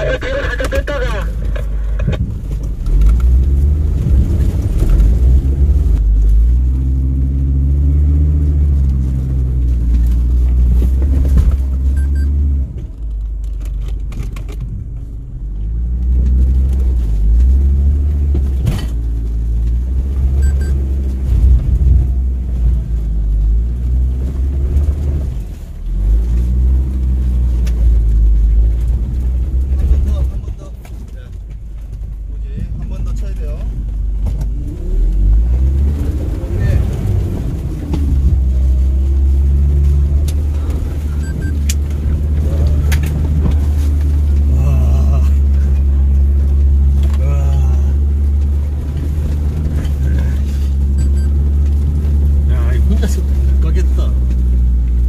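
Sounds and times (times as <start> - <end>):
off-road vehicle engine revving: 0.0 - 14.7, 15.4 - 55.0.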